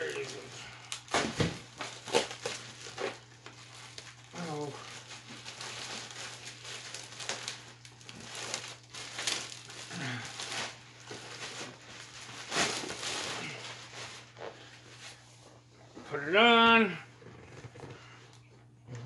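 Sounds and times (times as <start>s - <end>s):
plastic wrap crinkling: 0.0s - 15.3s.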